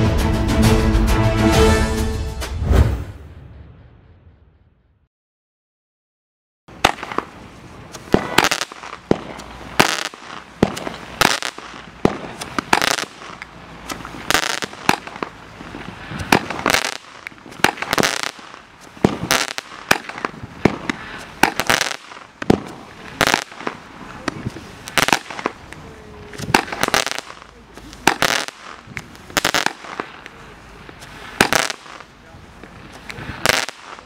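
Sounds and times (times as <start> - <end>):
fireworks launching and bursting: 6.7 - 34.0
sharp firework bangs: 6.7 - 34.0.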